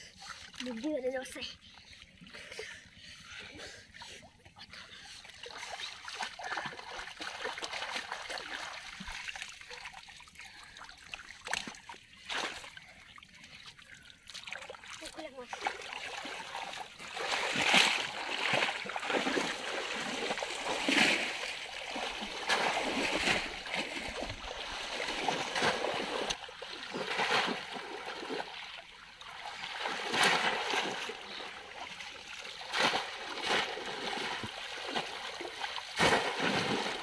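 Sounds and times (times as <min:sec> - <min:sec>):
water splashing and sloshing: 0:00.0 - 0:37.0.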